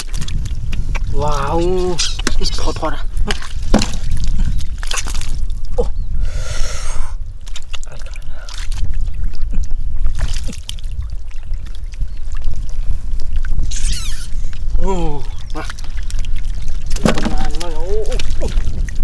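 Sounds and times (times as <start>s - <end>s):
hands splashing in muddy water: 0.0s - 2.6s, 3.2s - 5.6s, 7.4s - 14.2s, 15.3s - 19.0s.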